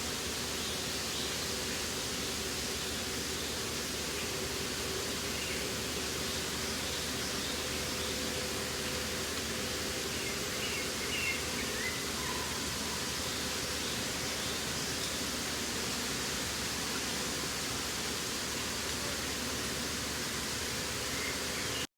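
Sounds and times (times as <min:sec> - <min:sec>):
steady even hiss: 0:00.0 - 0:21.9.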